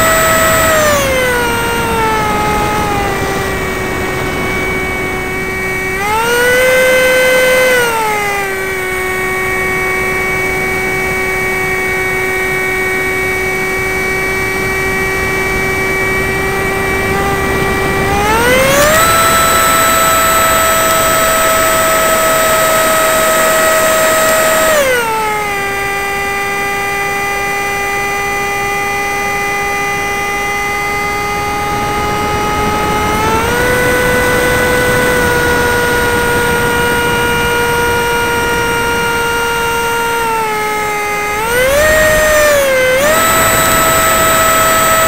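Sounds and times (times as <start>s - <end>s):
model plane motor whine: 0.0s - 45.0s.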